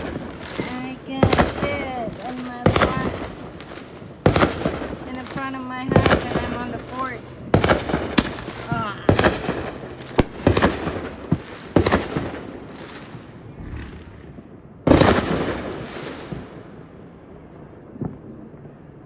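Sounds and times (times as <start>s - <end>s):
fireworks bangs: 0.0s - 17.3s.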